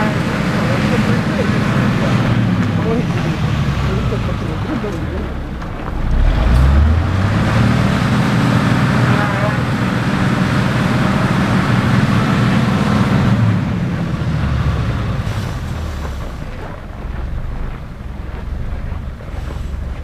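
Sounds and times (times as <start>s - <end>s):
engine low rumble: 0.0s - 20.0s
tyre and road hiss: 0.0s - 20.0s.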